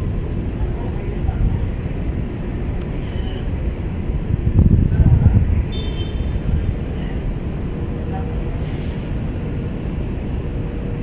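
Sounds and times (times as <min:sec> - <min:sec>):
insect chirping: 0:00.0 - 0:11.0
steady low rumble: 0:00.0 - 0:11.0.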